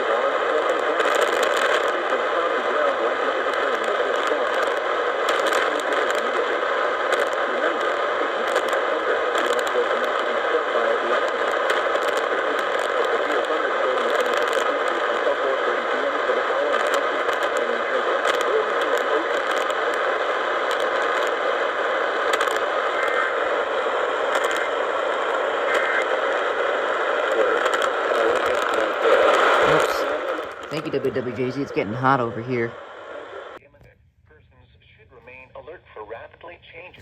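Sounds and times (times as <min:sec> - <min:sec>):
faint crackles: 0:00.0 - 0:37.0
radio static hiss: 0:00.0 - 0:37.0.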